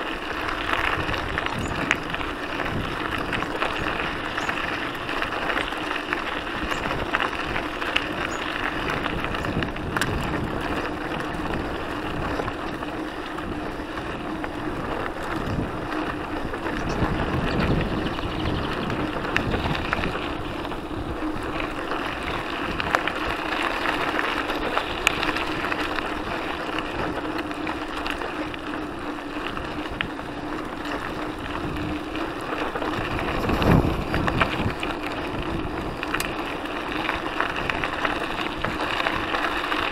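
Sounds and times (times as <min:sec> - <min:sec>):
bike tyres crunching on gravel: 0:00.0 - 0:39.9
wind buffeting microphone: 0:00.0 - 0:39.9.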